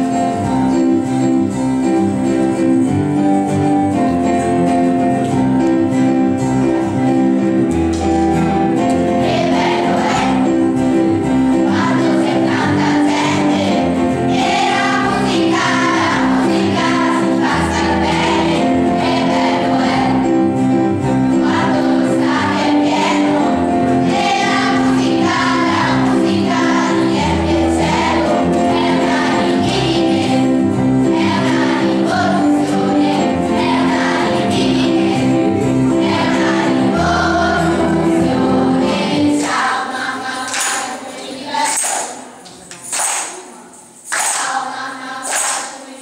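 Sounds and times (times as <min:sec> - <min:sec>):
guitar: 0:00.0 - 0:40.1
children's choir singing: 0:00.0 - 0:46.0
keyboard: 0:00.0 - 0:46.0.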